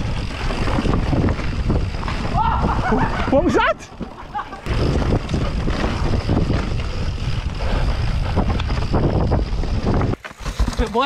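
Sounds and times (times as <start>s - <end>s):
bike tyres rumbling on dirt: 0.0s - 11.0s
wind on microphone: 0.0s - 11.0s.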